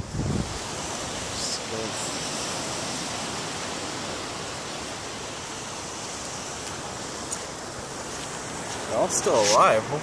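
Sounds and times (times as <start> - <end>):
surf rushing: 0.0 - 10.0
wind: 0.0 - 10.0.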